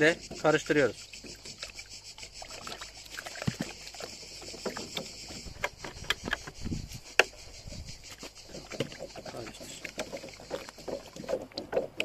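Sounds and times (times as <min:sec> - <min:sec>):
water sloshing: 0:00.0 - 0:12.0.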